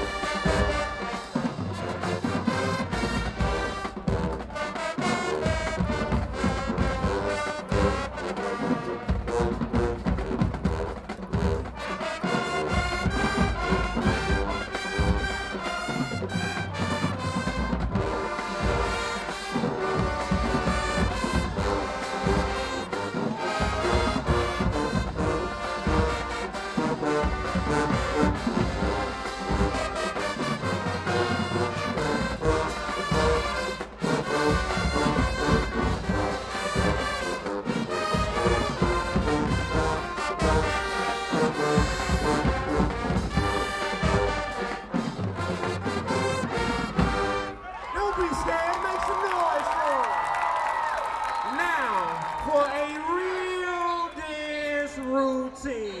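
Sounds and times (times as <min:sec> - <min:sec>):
brass section playing: 0:00.0 - 0:50.8
driving drum beat: 0:00.0 - 0:54.2.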